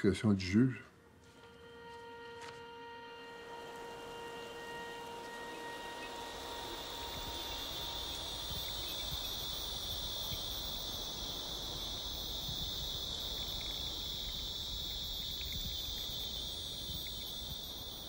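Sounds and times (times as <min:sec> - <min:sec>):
insects chirring: 0:02.7 - 0:18.0.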